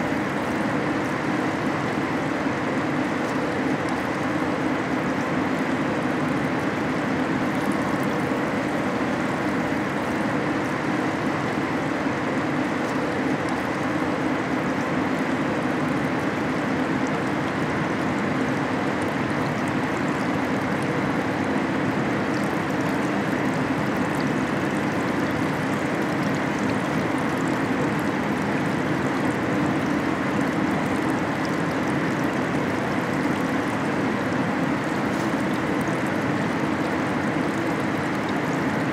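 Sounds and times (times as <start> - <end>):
liquid rushing and trickling: 0.0 - 38.9.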